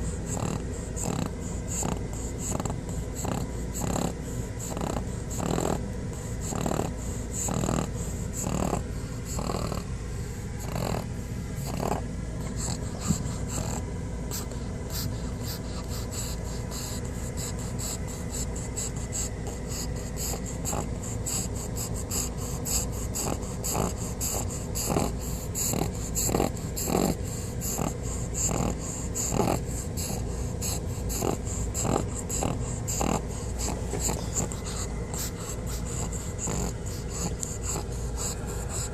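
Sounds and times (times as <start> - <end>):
dog snoring: 0.0 - 38.9.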